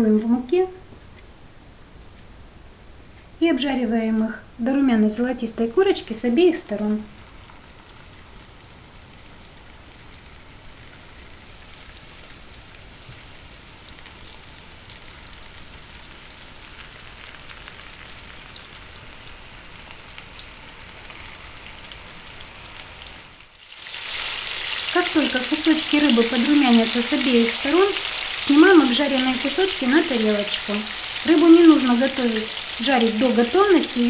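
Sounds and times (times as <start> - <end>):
fish frying in oil: 6.0 - 34.0.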